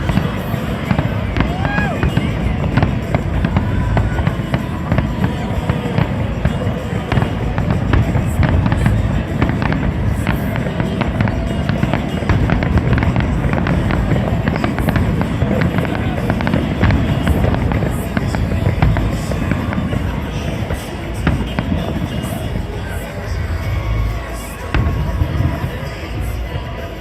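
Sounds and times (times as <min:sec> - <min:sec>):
firework bangs and crackles: 0:00.0 - 0:27.0.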